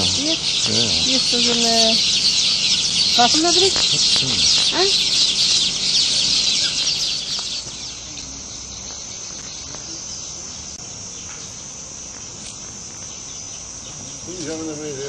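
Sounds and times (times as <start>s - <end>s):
crickets trilling: 0.0s - 15.0s
insects chirping chorus: 0.0s - 15.0s.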